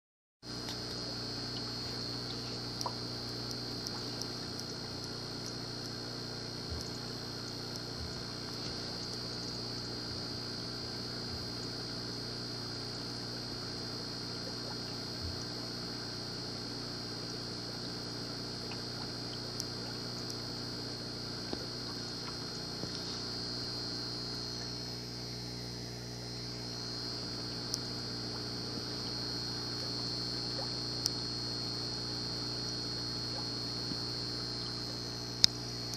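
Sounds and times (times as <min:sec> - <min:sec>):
aquarium pump humming: 0:00.4 - 0:35.9.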